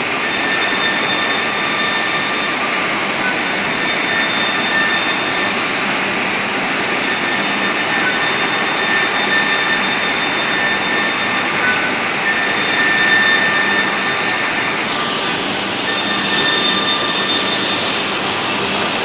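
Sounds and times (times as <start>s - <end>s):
high-pitched machine rush: 0.0s - 19.0s
machine motors whirring: 0.0s - 19.0s.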